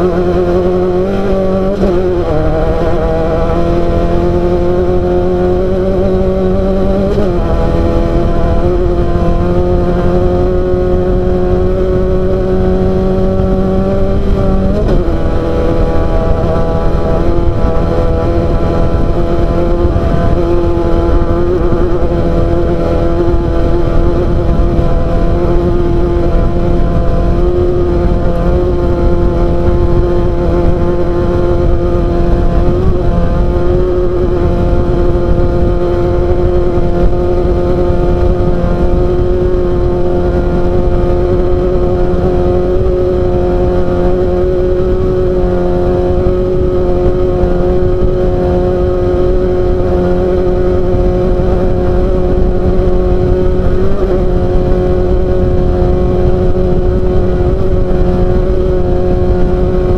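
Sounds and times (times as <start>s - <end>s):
low rumble: 0.0s - 59.9s
race car engine running hard: 0.0s - 59.9s.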